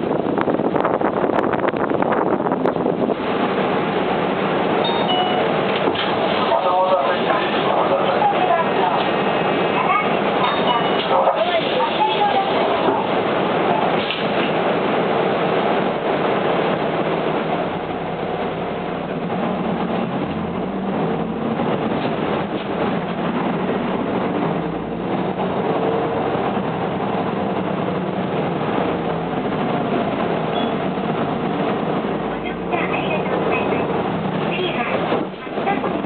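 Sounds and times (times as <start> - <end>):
bus engine: 0.0 - 36.0
road noise: 0.0 - 36.0.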